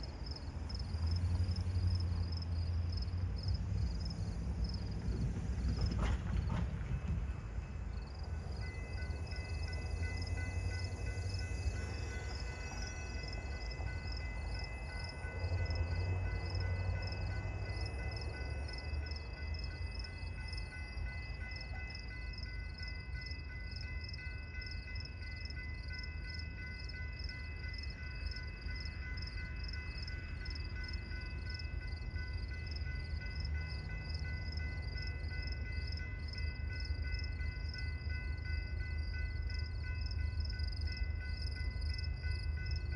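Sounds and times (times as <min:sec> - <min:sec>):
freight train rumbling: 0:00.0 - 0:42.9.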